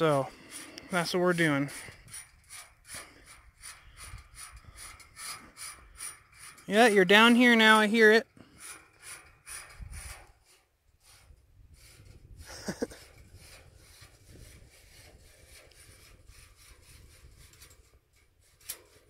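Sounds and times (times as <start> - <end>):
fish tape scraping inside conduit: 0.0 - 7.8, 8.4 - 19.0.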